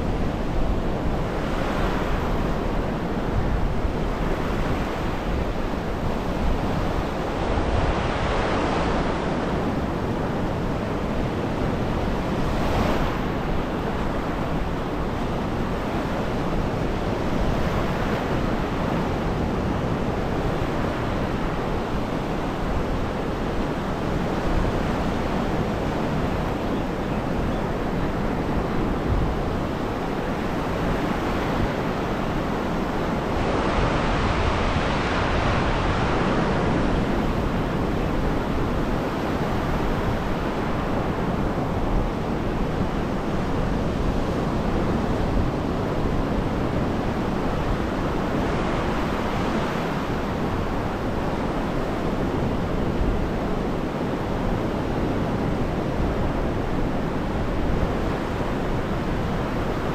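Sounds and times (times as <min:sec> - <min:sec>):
wind rumbling on microphone: 0:00.0 - 0:59.9.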